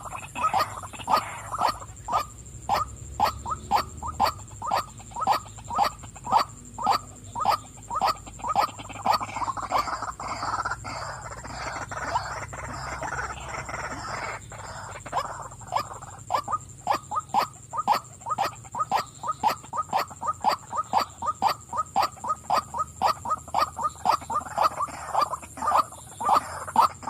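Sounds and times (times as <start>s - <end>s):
waterhen croaking calls: 0.0s - 27.0s.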